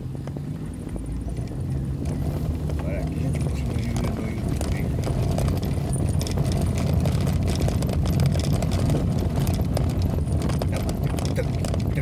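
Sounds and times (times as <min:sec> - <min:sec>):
vehicle engine and road rumble: 0:00.0 - 0:12.0
small clicks and rattles: 0:00.7 - 0:12.0.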